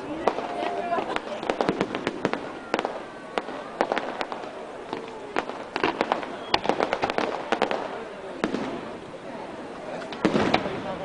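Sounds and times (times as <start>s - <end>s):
faint crowd chatter: 0.0s - 11.0s
fireworks cracking and banging: 0.0s - 11.0s.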